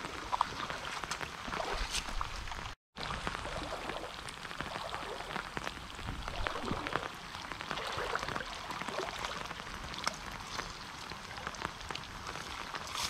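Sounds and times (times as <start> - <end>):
water dripping from a net: 0.1 - 13.0.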